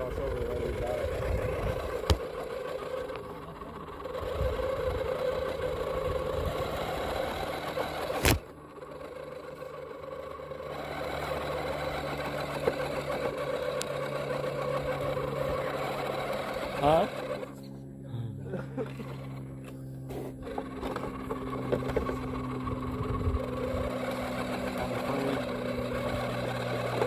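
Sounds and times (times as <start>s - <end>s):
electric motor and gears whining: 0.0s - 27.0s.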